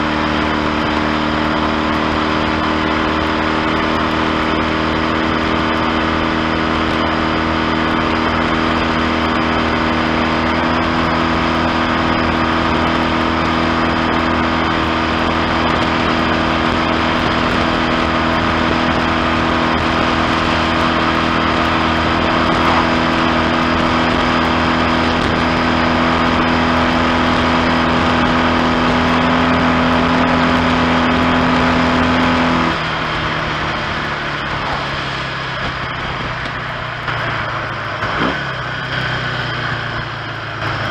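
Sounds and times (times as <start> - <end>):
motorcycle engine pulling steadily: 0.0 - 40.9.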